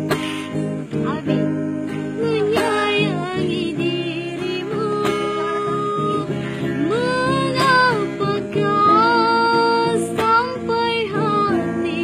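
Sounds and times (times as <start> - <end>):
instrumental accompaniment: 0.0 - 12.0
woman singing slow melody: 0.0 - 12.0.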